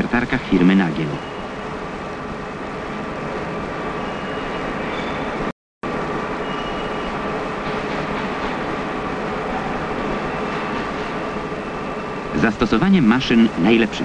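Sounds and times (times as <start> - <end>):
faint machine whine: 0.0 - 14.0.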